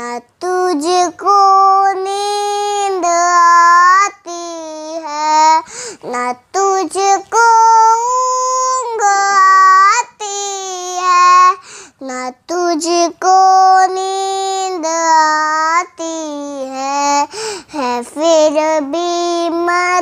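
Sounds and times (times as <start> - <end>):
girl singing unaccompanied: 0.0 - 20.0.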